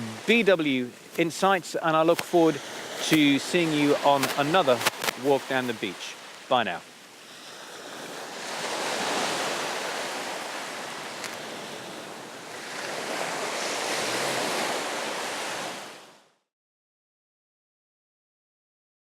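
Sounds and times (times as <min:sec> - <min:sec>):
waves washing on a beach: 0:00.0 - 0:16.3.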